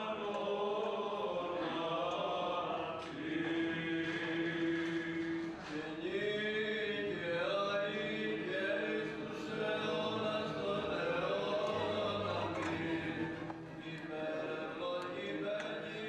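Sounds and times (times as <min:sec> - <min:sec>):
voices chanting slow melody: 0:00.0 - 0:16.0.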